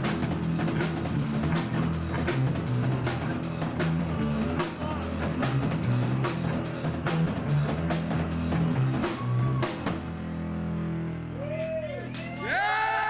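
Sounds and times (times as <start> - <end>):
rock band playing: 0.0 - 12.6.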